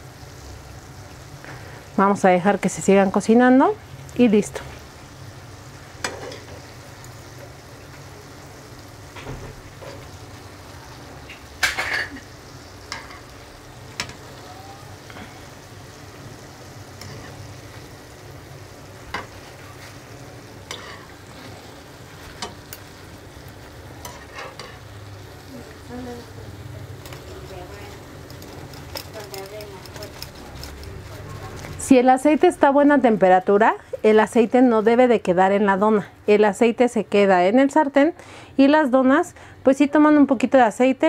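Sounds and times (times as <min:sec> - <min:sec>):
doughnuts sizzling in oil: 0:00.0 - 0:41.0.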